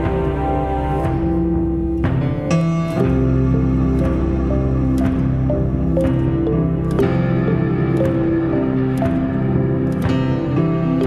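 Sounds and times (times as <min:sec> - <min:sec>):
ambient synth chords: 0:00.0 - 0:11.0
steady bass line: 0:00.0 - 0:11.0.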